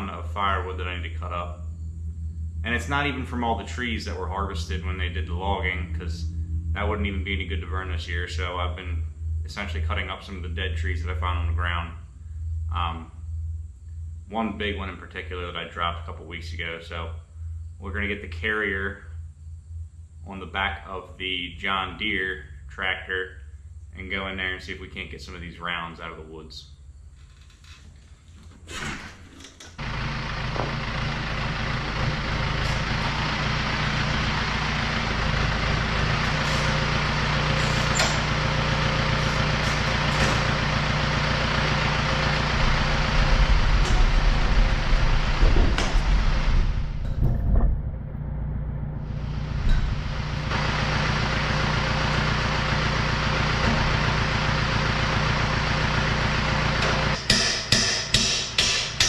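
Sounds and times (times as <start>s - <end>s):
tractor diesel engine running: 0.0s - 28.4s, 29.8s - 59.0s.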